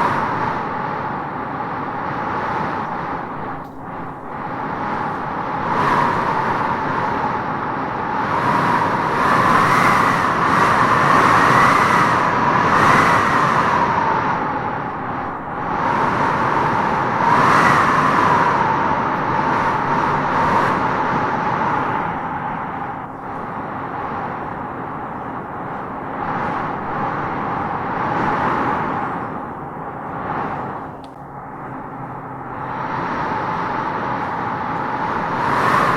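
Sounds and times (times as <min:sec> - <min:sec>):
wind howling through trees: 0:00.0 - 0:35.9.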